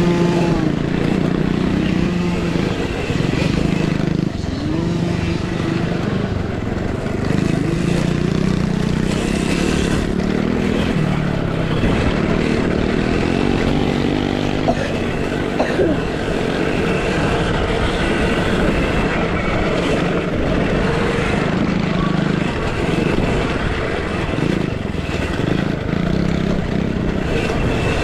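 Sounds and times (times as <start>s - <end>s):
dirt bike engines revving: 0.0s - 28.0s
steady rush of noise: 0.0s - 28.0s.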